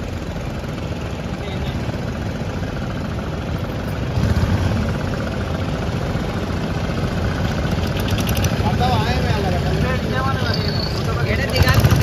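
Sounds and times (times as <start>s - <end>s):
motorboat rumbling: 0.0s - 12.0s.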